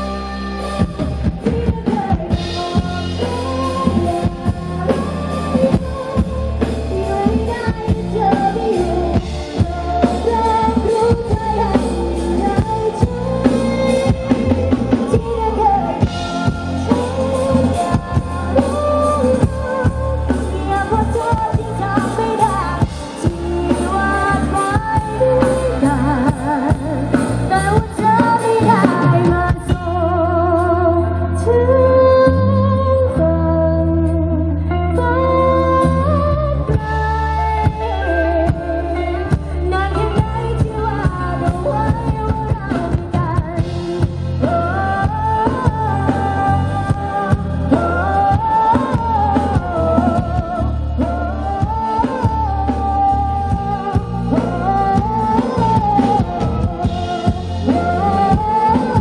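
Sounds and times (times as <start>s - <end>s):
live band playing: 0.0s - 59.0s
woman singing: 0.0s - 59.0s.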